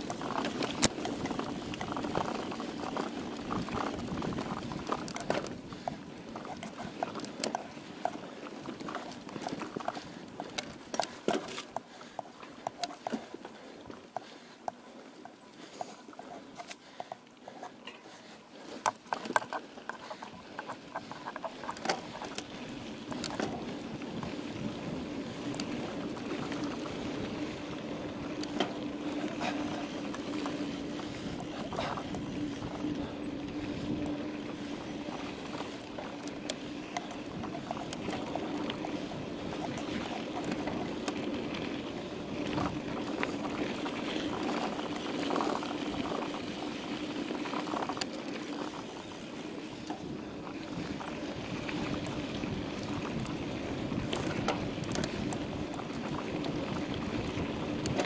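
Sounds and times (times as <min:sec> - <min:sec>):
bike rattling over rough ground: 0:00.0 - 0:58.0
tyres rolling on trail: 0:00.0 - 0:58.0.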